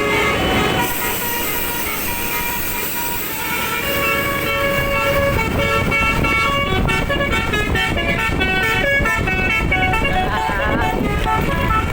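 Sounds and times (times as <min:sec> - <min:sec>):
multi-trumpet air horn melody: 0:00.0 - 0:11.9.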